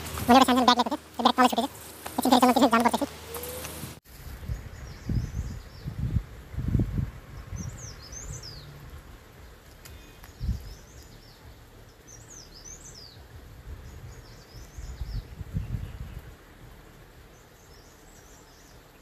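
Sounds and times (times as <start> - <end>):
bird chirping: 0.0 - 6.1, 7.3 - 16.4, 17.1 - 19.0
outdoor background noise: 0.0 - 19.0.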